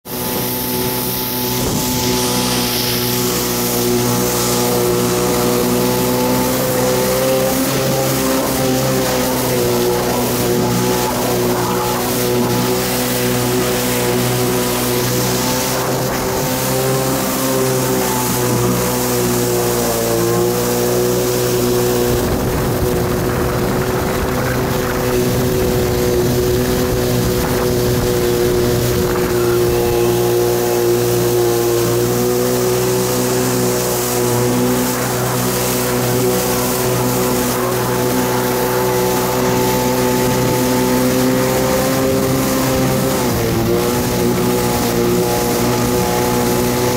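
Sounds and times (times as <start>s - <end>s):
jet ski engine running: 0.0s - 46.9s.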